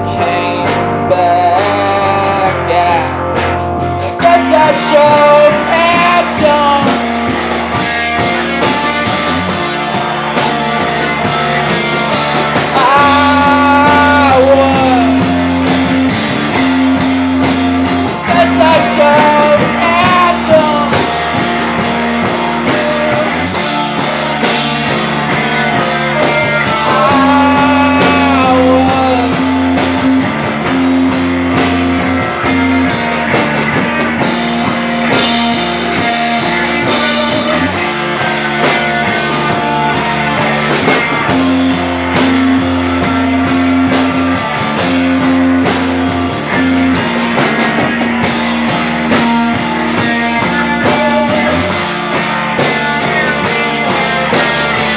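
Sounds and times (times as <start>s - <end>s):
bass guitar: 0.0s - 54.9s
drum kit beat: 0.0s - 54.9s
electric guitars: 0.0s - 54.9s
gliding lead guitar line: 0.0s - 54.9s.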